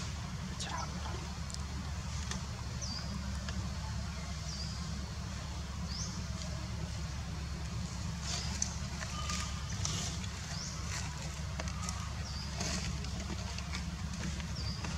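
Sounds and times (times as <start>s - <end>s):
low outdoor rumble: 0.0s - 14.9s.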